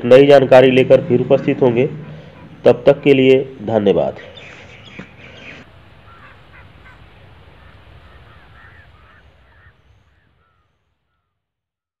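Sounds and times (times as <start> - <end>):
low background rumble: 0.0 - 10.6
birds chirping: 0.0 - 11.4.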